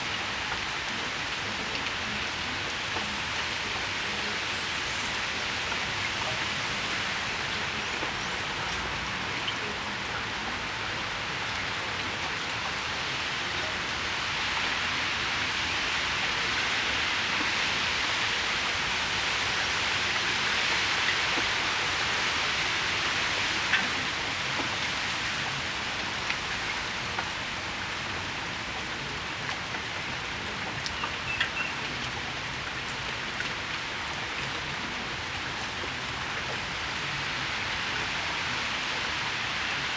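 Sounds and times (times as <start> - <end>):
rain falling on patio: 0.0 - 39.9.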